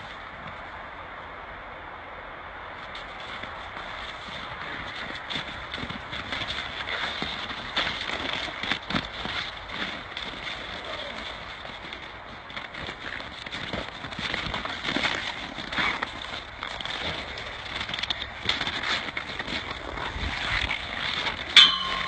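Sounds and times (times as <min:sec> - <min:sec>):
horse hooves on snow: 0:00.0 - 0:01.2, 0:02.7 - 0:22.0.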